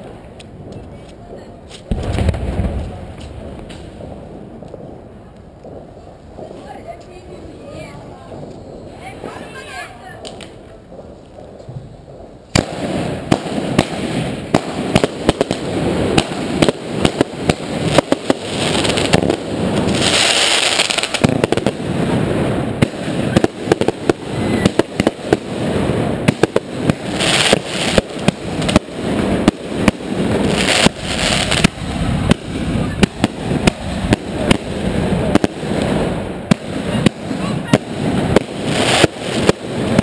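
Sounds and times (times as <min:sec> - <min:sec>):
fireworks bangs and cracks: 0:00.0 - 0:40.0
rockets hissing: 0:01.3 - 0:40.0.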